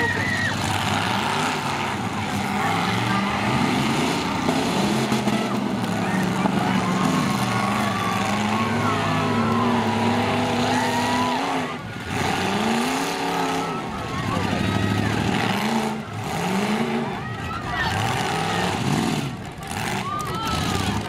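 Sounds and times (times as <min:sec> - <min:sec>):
truck engines revving: 0:00.0 - 0:21.0.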